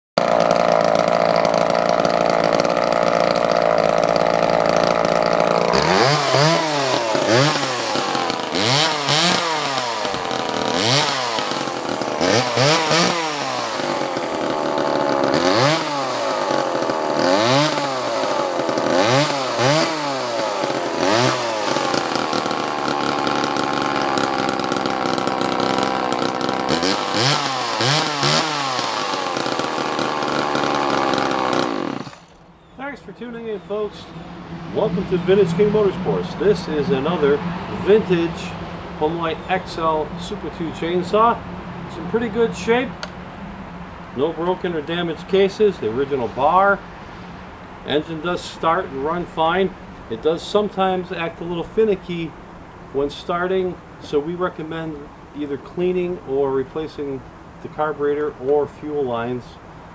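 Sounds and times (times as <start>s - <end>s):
chainsaw engine revving: 0.2s - 32.5s, 34.8s - 43.2s, 44.2s - 52.4s.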